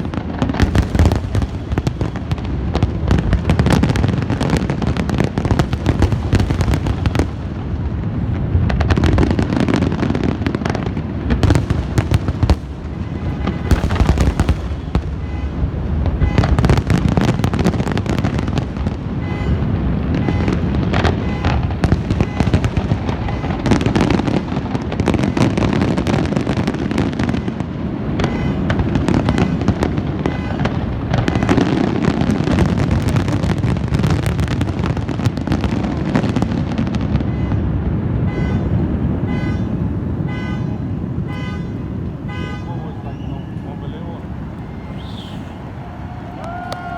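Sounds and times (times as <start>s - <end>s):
fireworks crackling and banging: 0.0s - 46.9s.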